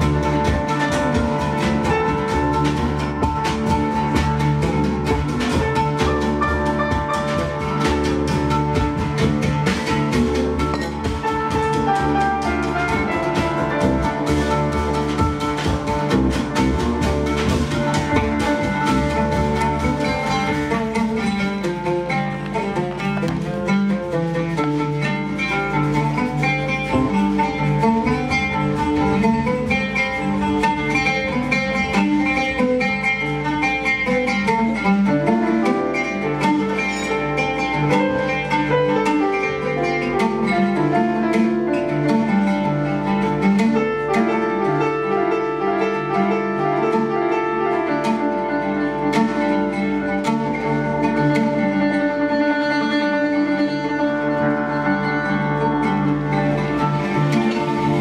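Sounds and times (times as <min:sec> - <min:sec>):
light percussion strikes: 0:00.0 - 0:53.0
electric bass: 0:00.0 - 0:58.0
piano: 0:00.0 - 0:58.0
plucked oud: 0:00.0 - 0:58.0.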